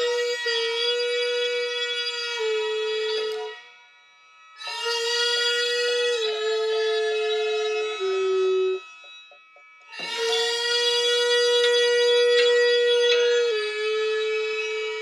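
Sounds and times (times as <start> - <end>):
double-reed pipe held notes: 0.0 - 15.0.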